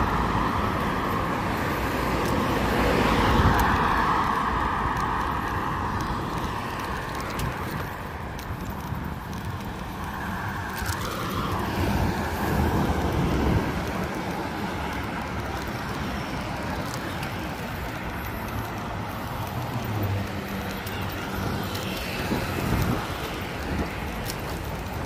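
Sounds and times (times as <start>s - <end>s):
cars passing on street: 0.0s - 25.0s.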